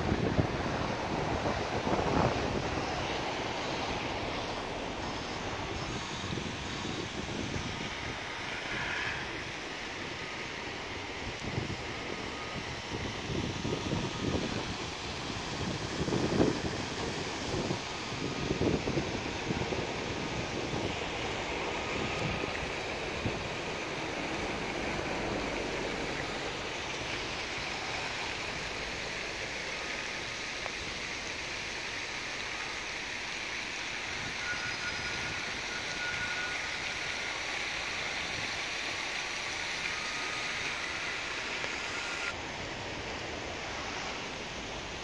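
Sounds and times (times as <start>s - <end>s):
traffic roar: 0.0s - 45.0s.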